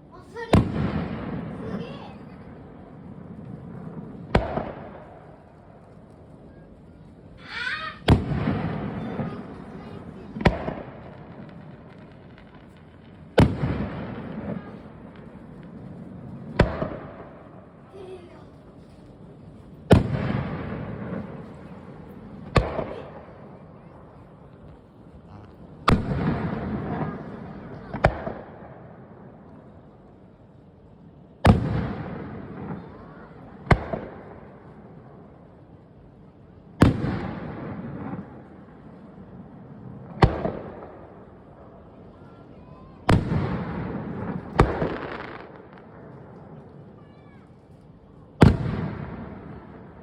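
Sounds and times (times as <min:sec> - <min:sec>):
fireworks bursting: 0:00.0 - 0:50.0
rumble of fireworks: 0:00.0 - 0:50.0.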